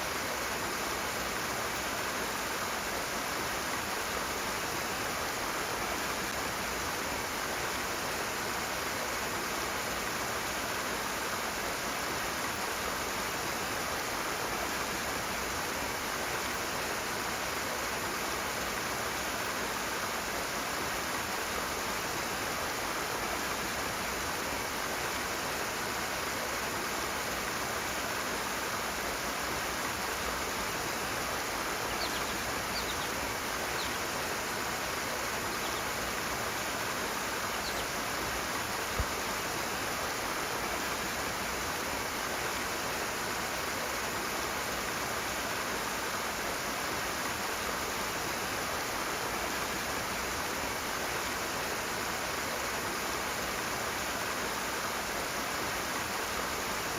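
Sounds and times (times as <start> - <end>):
fast stream rushing: 0.0 - 56.9.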